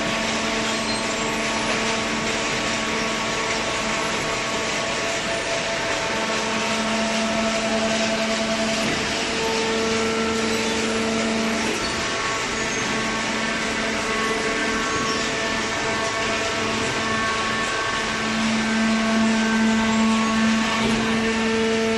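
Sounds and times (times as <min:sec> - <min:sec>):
baler motor and pump hum: 0:00.0 - 0:21.9.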